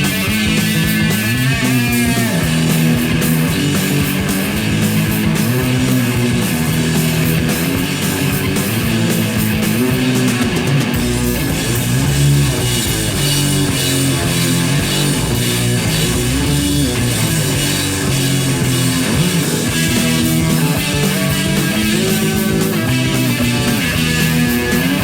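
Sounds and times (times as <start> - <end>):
drum kit: 0.0 - 25.0
electric guitar and bass riff: 0.0 - 25.0.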